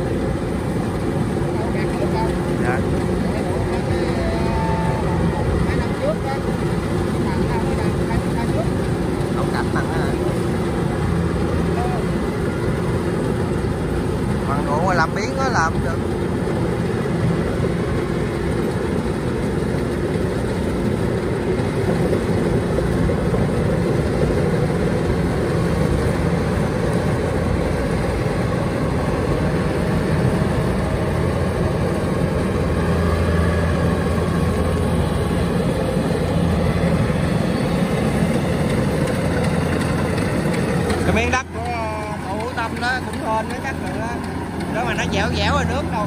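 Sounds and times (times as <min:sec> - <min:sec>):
combine harvester droning: 0:00.0 - 0:46.0.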